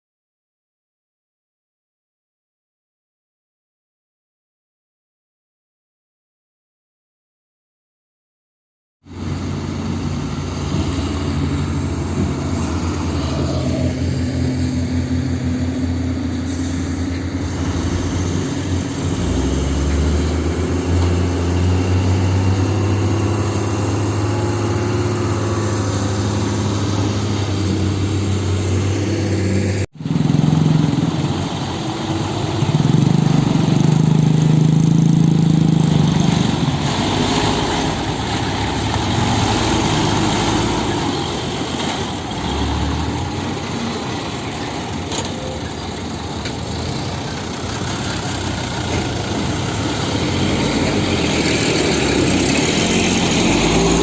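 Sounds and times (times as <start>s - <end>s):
diesel engine running: 9.1s - 54.0s.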